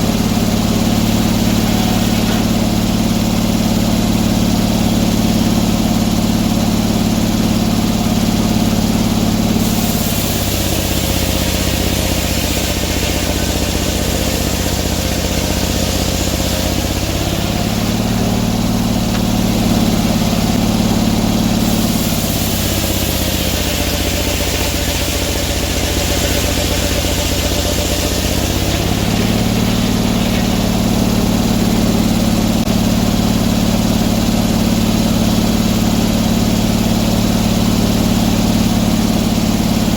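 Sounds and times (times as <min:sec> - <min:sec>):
sawmill engine sawing log: 0:00.0 - 0:39.9.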